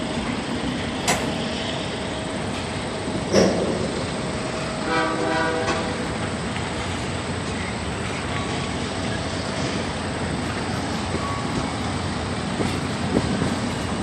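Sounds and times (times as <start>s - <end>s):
freight train wheels rumbling on rail: 0.0s - 14.0s.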